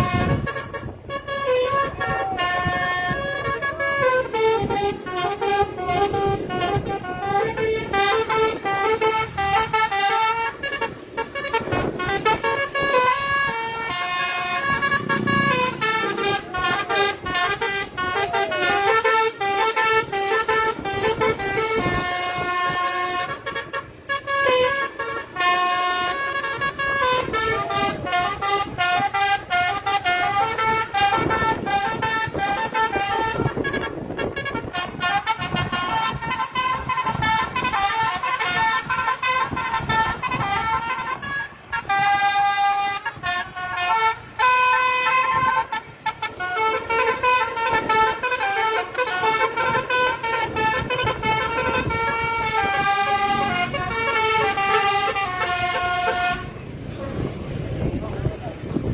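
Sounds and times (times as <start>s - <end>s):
bus horn playing a melody: 0.0s - 57.0s.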